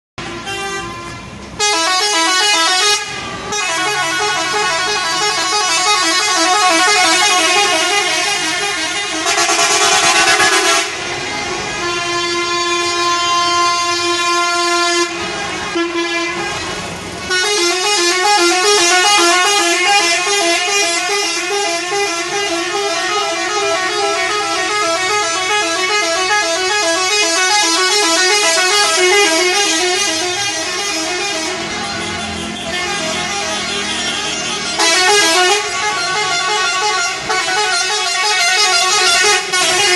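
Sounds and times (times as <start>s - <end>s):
bus air horn warbling: 0.2s - 39.9s.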